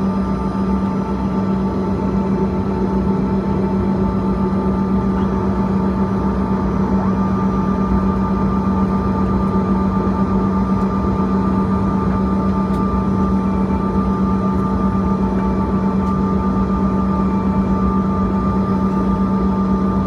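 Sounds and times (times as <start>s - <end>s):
aircraft cabin engine rumble: 0.0s - 20.0s
high engine whine: 0.0s - 20.0s.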